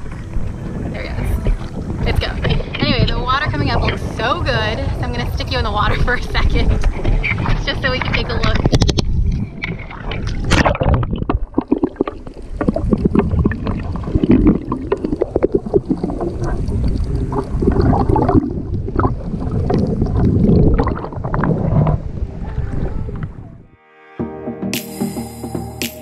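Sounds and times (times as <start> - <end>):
water splashes: 0.0 - 23.4
seawater sloshing and gurgling: 0.0 - 23.6.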